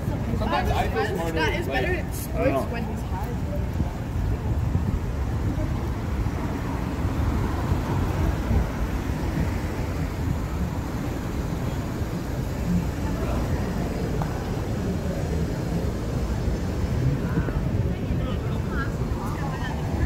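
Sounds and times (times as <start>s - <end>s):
faint voices: 0.0s - 20.0s
traffic rumble: 0.0s - 20.0s.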